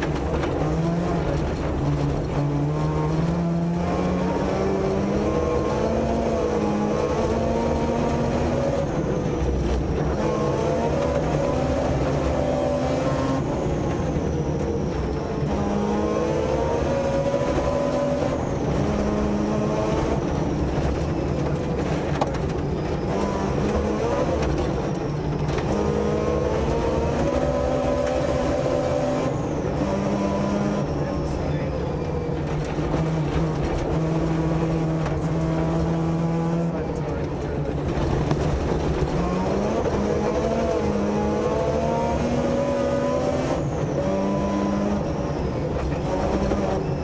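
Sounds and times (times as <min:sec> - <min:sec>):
road noise rumble: 0:00.0 - 0:47.0
rotary engine revving: 0:00.0 - 0:47.0.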